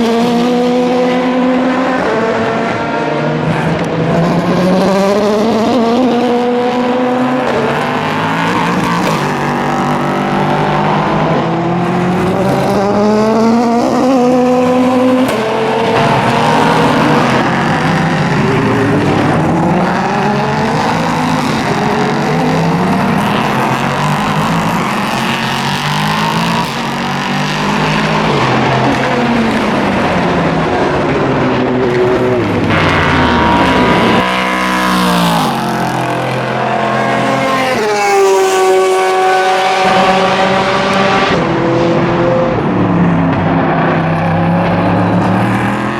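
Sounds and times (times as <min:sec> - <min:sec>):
race car engines: 0:00.0 - 0:45.9.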